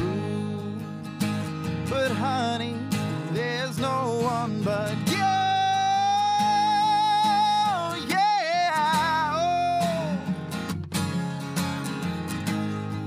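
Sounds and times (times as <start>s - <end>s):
person singing folk song: 0.0s - 11.4s
acoustic guitar strumming: 0.0s - 13.0s.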